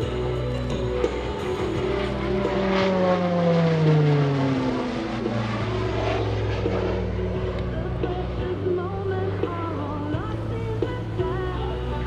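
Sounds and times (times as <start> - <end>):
turboprop aircraft passing: 0.0 - 12.0.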